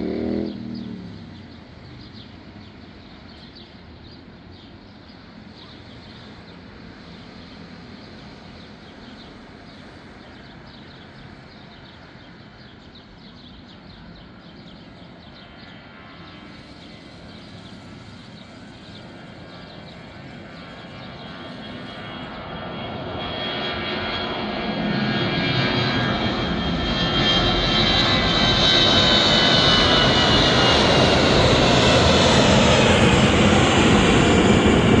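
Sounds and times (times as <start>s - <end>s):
airliner engines spooling up: 0.0s - 35.0s.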